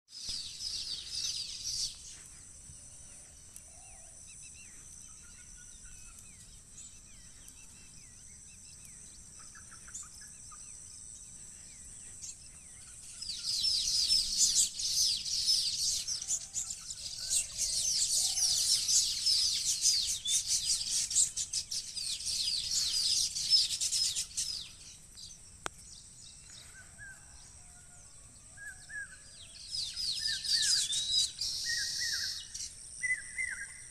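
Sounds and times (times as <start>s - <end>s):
faint low bird calls: 0.1s - 33.9s
small birds chirping: 0.1s - 33.9s.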